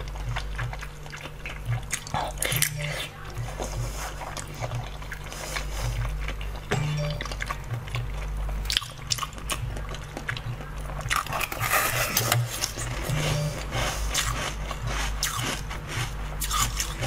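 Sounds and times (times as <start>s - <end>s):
music with steady bass line: 0.0s - 17.0s
person chewing and biting: 0.0s - 17.0s.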